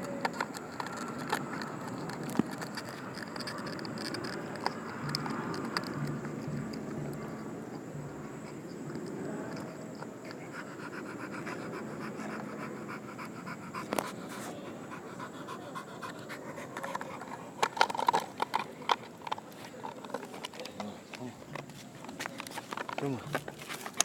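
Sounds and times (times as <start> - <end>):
dog panting: 0.3 - 20.6.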